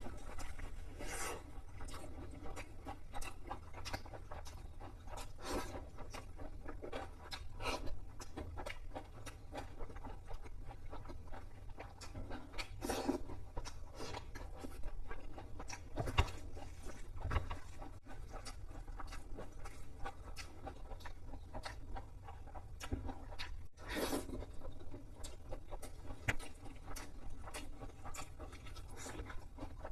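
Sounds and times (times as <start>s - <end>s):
crunching and chewing fried chicken: 0.0s - 29.9s.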